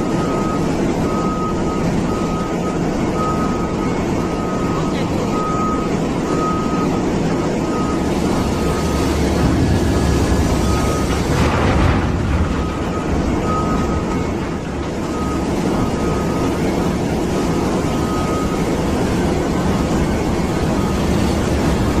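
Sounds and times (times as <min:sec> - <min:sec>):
haul truck diesel engine rumbling: 0:00.0 - 0:22.0.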